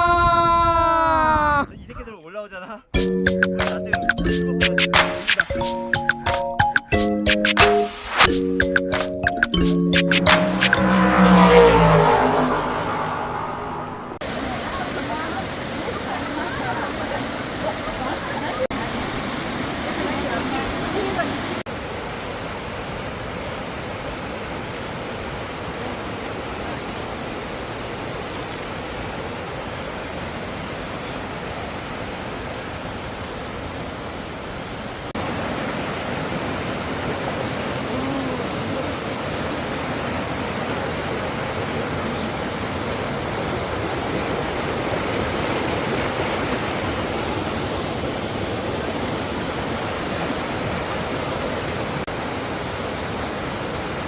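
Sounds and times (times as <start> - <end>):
stream water rushing: 9.7 - 54.0.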